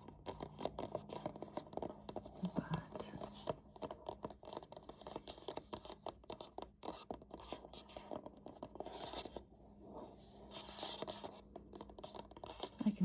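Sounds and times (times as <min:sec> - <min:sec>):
scratchy rustling: 0:00.0 - 0:13.0.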